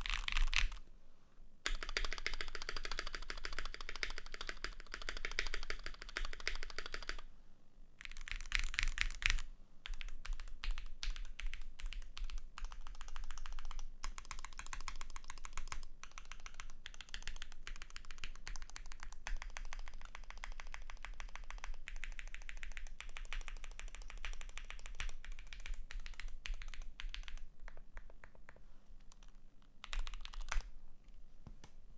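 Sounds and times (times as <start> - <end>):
fast mechanical keyboard typing: 0.0 - 0.8, 1.7 - 7.2, 8.0 - 27.5, 29.2 - 30.7.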